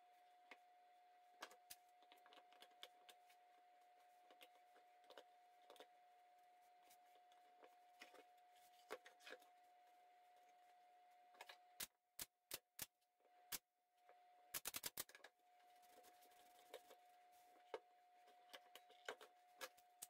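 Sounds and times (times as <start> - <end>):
faint steady hum: 0.0 - 12.3, 13.0 - 20.0.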